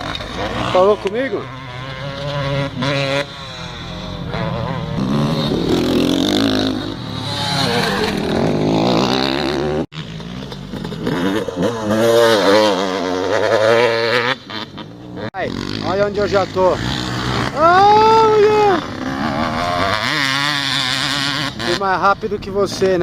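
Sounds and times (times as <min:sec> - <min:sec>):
motocross engine revving: 0:00.0 - 0:23.0.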